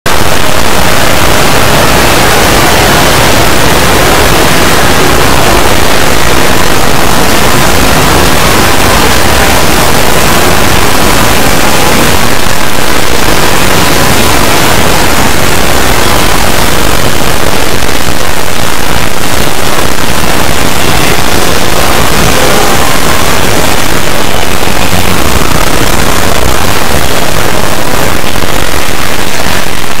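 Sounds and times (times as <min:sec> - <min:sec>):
harsh static-like noise: 0:00.0 - 0:30.0.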